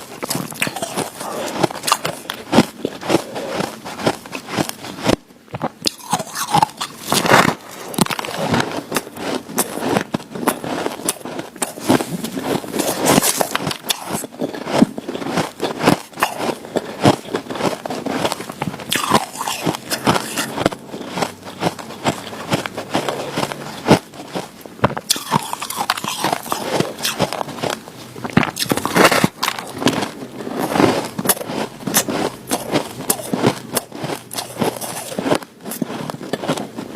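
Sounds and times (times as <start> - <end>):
person chewing crunchy ice: 0.0 - 36.9.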